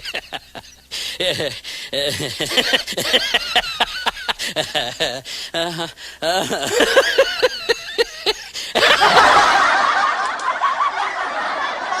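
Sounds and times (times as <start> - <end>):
several people laughing: 0.0 - 12.0.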